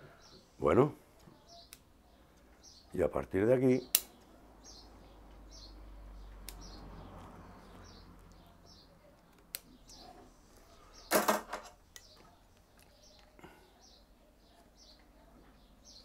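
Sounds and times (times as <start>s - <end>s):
small bird chirping: 1.1s - 3.0s, 3.7s - 11.1s, 11.8s - 16.0s.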